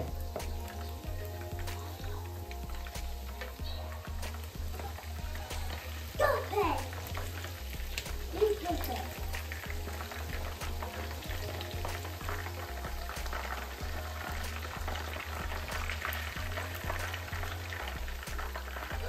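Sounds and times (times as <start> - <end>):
chicken deep-frying in oil: 0.0 - 19.0.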